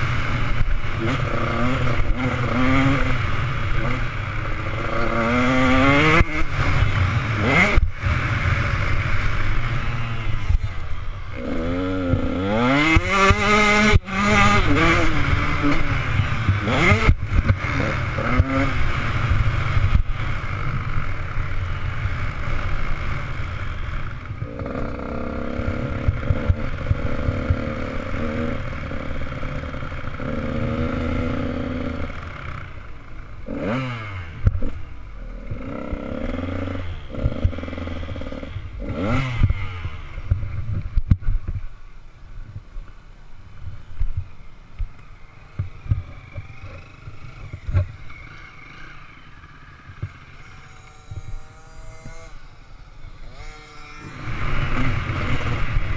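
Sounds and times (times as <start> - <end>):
motocross bike engine: 0.0 - 55.9.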